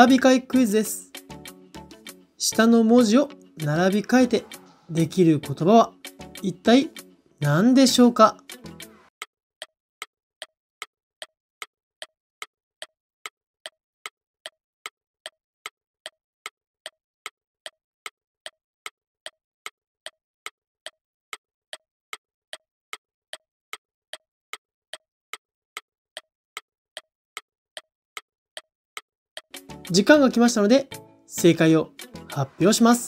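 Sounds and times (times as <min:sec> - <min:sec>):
clock ticking: 0:02.5 - 0:07.6, 0:09.2 - 0:33.0.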